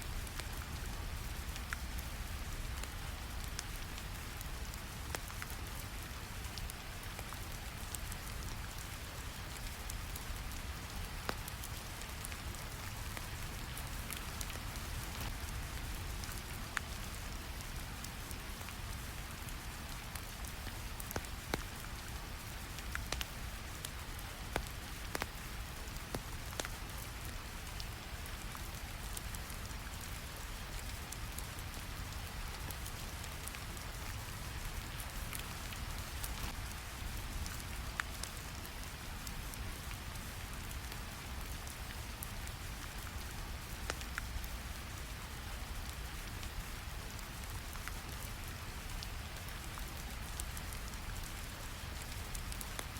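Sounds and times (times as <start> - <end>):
steady rain: 0.0 - 52.9.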